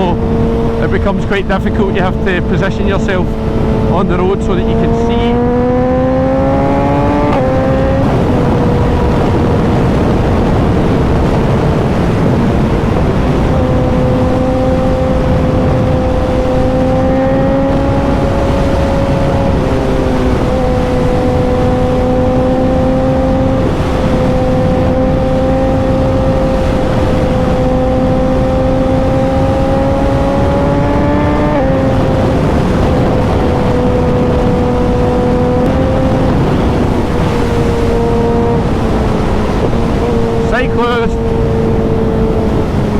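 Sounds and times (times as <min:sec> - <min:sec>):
motorcycle engine under way: 0:00.0 - 0:42.9
steady rushing noise: 0:00.0 - 0:42.9.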